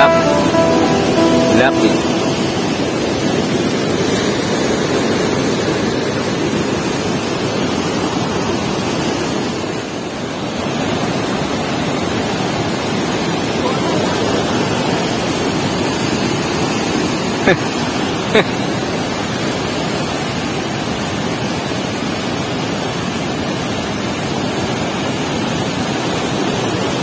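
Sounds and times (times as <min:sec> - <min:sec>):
rushing water: 0:00.0 - 0:27.0.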